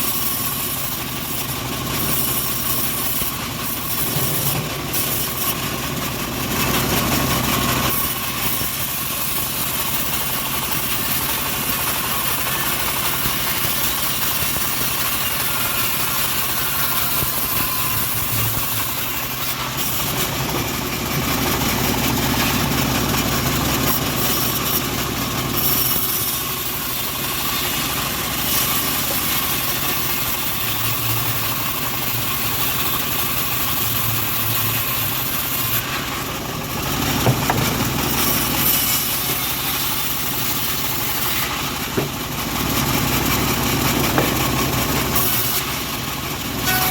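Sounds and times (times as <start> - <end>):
bandsaw sawmill engine drone: 0.0 - 46.9.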